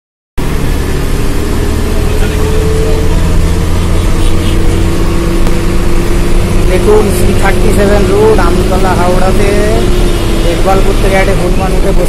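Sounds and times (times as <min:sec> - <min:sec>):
bus engine and road drone: 0:00.4 - 0:12.0.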